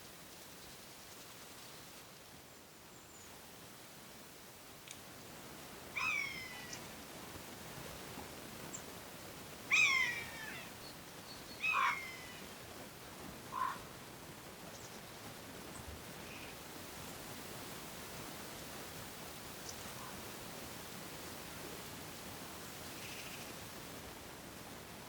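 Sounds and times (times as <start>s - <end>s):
faint background hiss: 0.0s - 25.0s.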